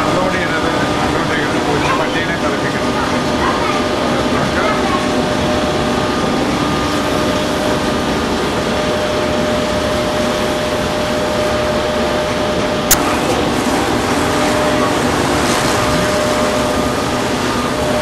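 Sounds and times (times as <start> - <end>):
loud noise: 0.0 - 18.0
motor humming: 0.0 - 18.0.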